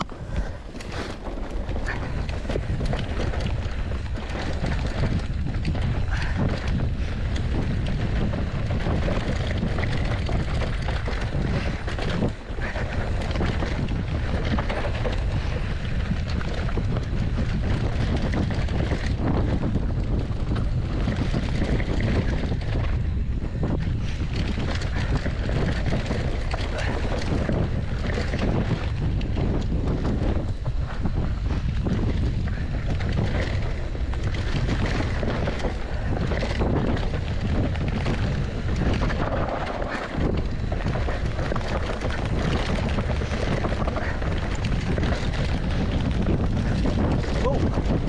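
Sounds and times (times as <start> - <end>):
bike knocks and rattles: 0.0 - 48.0
wind buffeting microphone: 0.0 - 48.0.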